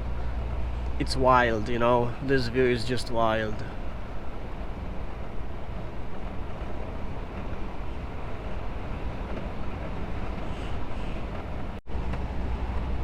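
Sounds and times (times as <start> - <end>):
truck engine drone: 0.0 - 9.2, 10.5 - 13.0
road noise: 0.0 - 13.0.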